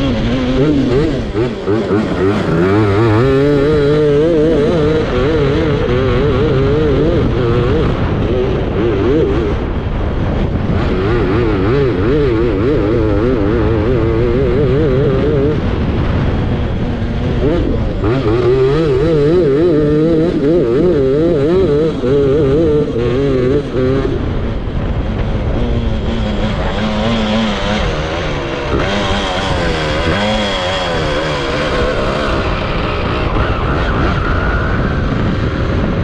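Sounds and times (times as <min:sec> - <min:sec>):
kart engine running hard: 0:00.0 - 0:36.0.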